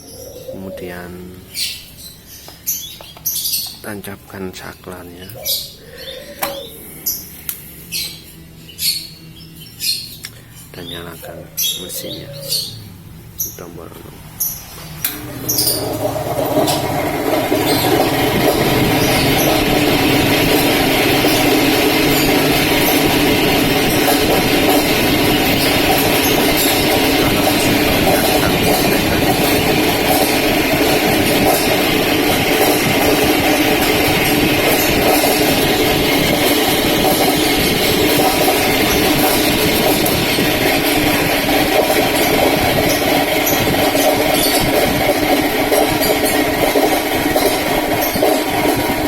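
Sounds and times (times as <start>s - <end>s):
spinner machine humming: 0.0s - 49.0s.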